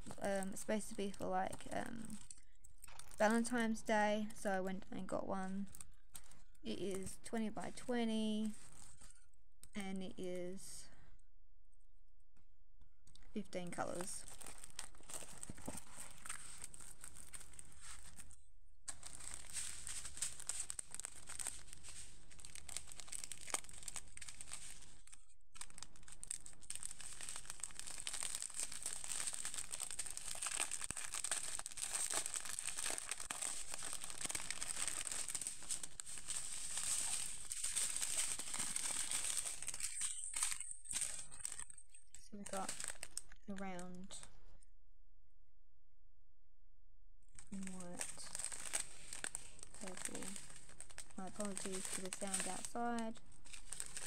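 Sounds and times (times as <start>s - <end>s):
plastic packaging crinkling: 0.0s - 3.7s, 5.6s - 9.3s, 13.8s - 44.0s, 47.4s - 54.0s.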